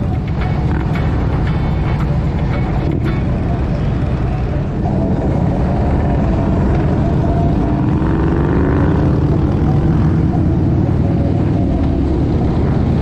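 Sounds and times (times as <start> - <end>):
motorcycle engine running: 0.0 - 13.0
rising tone: 0.0 - 13.0.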